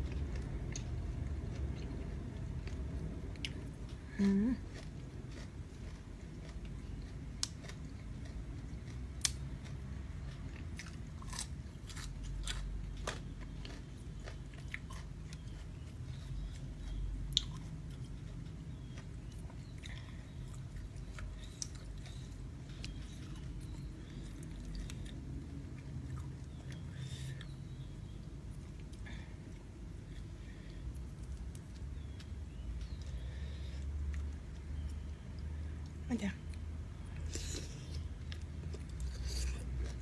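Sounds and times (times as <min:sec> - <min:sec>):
person chewing shrimp: 0:00.0 - 0:40.0.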